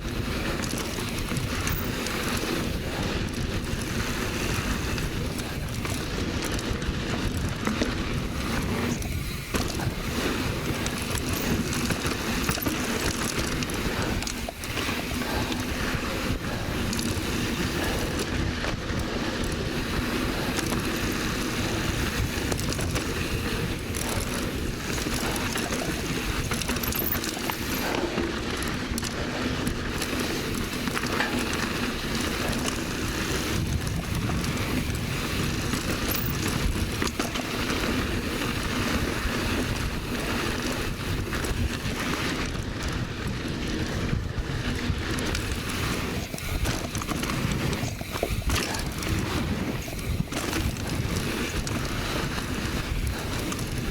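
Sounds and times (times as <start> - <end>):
bike tyres rolling on dirt: 0.0 - 53.9
wind on microphone: 0.0 - 53.9.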